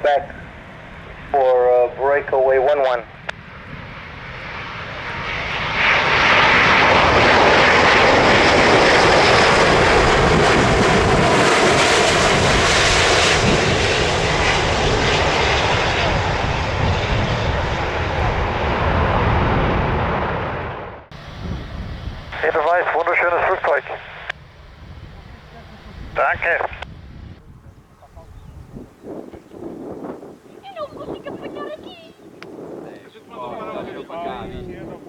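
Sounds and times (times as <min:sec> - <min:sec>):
jet engine passing: 0:00.0 - 0:35.0.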